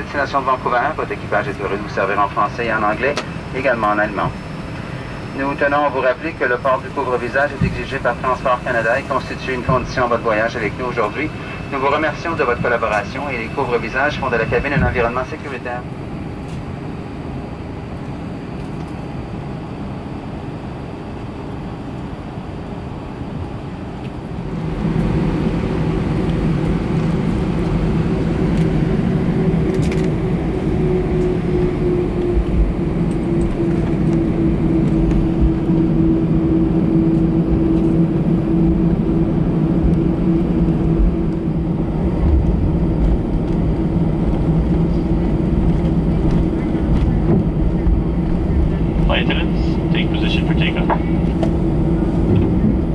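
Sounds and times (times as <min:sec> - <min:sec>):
aircraft cabin hum: 0:00.0 - 0:52.9
jet engines spooling up: 0:00.0 - 0:52.9.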